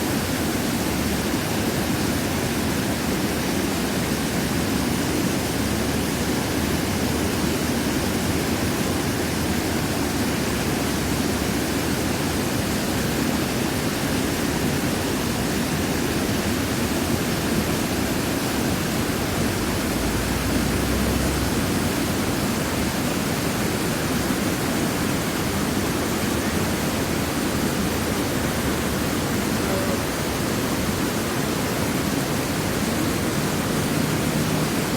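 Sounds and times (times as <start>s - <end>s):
falling water rushing: 0.0s - 34.9s.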